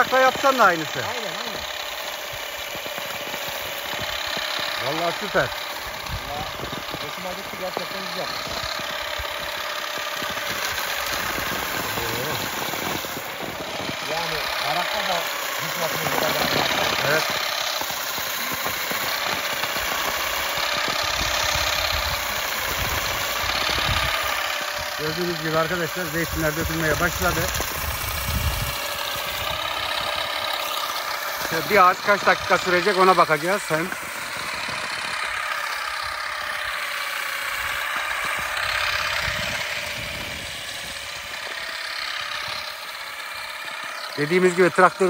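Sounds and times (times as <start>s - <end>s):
olive harvester beating branches: 0.0s - 45.0s.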